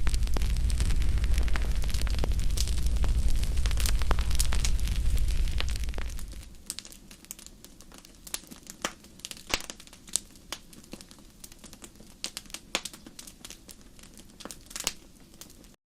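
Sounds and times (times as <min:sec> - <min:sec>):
faint hiss: 0:00.0 - 0:15.7
wood fire crackling: 0:00.0 - 0:15.8.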